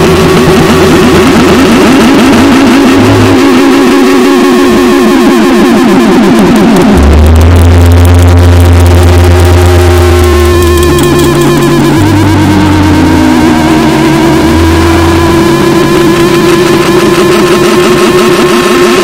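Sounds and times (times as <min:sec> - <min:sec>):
deep low drone: 0:00.0 - 0:19.0
distorted electronic noise music: 0:00.0 - 0:19.0.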